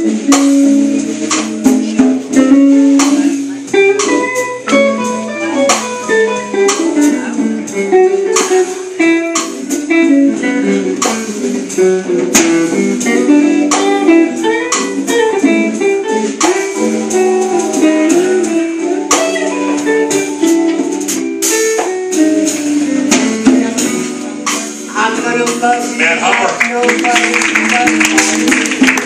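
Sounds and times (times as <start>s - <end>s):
jazz combo playing: 0.0s - 29.0s
lead guitar single notes: 0.0s - 29.0s.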